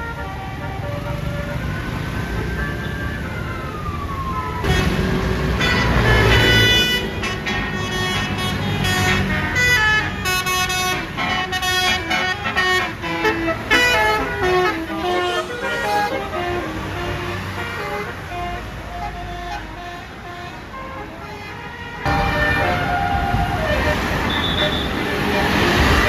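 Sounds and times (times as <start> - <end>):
bus air horn melody: 0.0 - 1.6, 4.6 - 26.0
bus engine rumble: 0.0 - 26.0.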